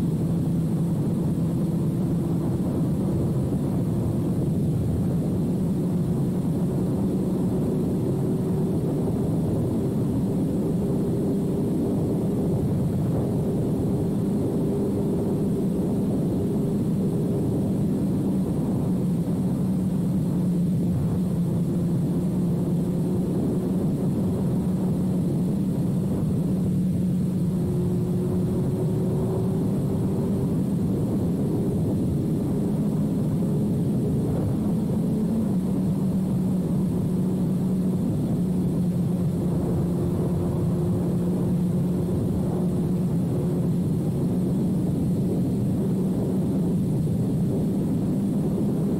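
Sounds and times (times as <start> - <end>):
motorcycle engine cruising: 0.0 - 48.9
wind rush over microphone: 0.0 - 48.9.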